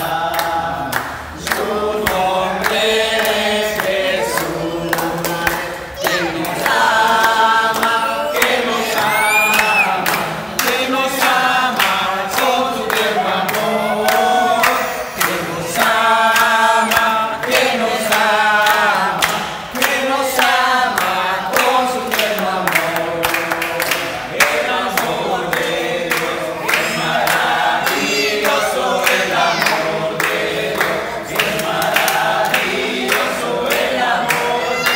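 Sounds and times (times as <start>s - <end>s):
people singing in chorus: 0.0s - 34.9s.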